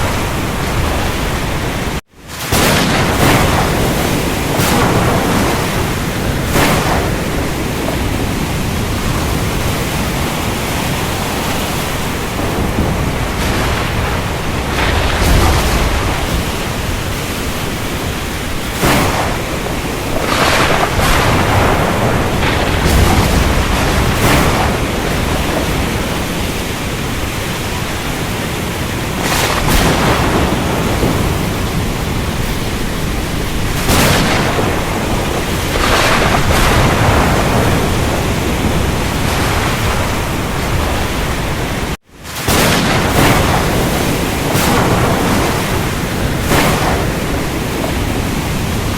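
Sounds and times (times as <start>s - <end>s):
rain: 0.0s - 48.9s
surf rushing: 0.0s - 48.9s
thunder crashes and rumbles: 0.0s - 48.9s.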